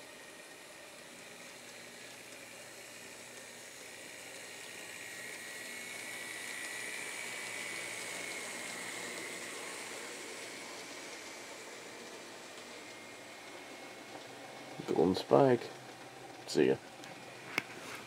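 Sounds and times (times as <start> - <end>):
model train motor whirring: 0.0 - 18.0.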